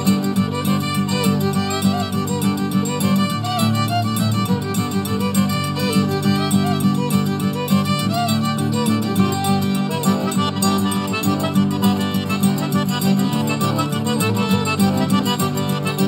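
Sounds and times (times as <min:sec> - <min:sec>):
fiddle playing a melody: 0:00.0 - 0:16.0.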